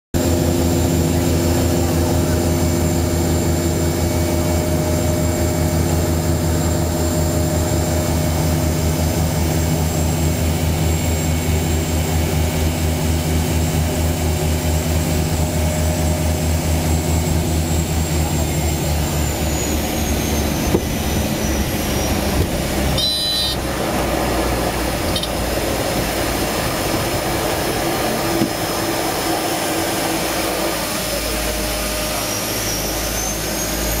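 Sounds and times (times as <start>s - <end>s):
propeller engines droning: 0.2s - 34.0s.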